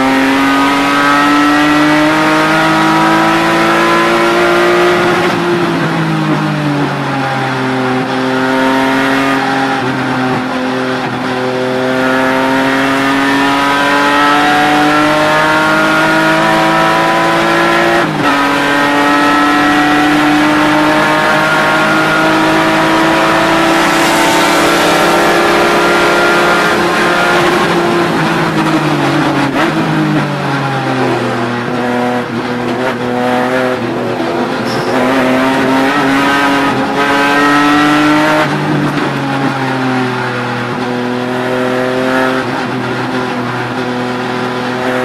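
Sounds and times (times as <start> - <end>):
race car engine revving: 0.0 - 45.0.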